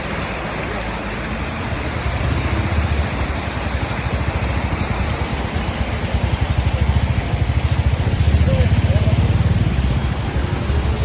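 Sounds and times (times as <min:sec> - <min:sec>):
steady rushing noise: 0:00.0 - 0:11.0
vehicle engine throbbing: 0:00.0 - 0:11.0.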